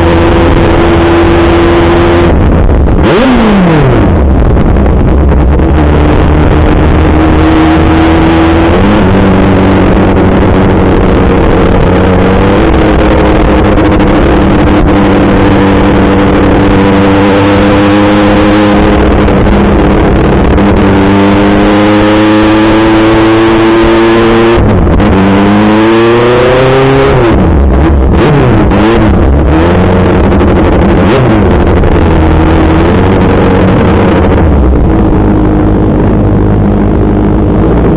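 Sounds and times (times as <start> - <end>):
heavy rush of noise: 0.0 - 37.9
motorcycle engine running: 0.0 - 37.9.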